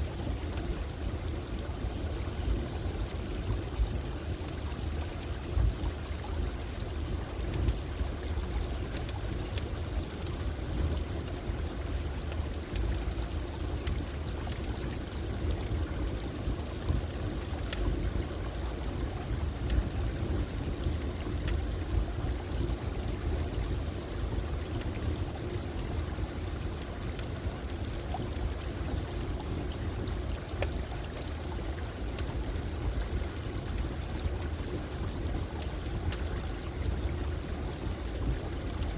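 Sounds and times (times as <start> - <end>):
faint campfire crackles: 0.0 - 38.9.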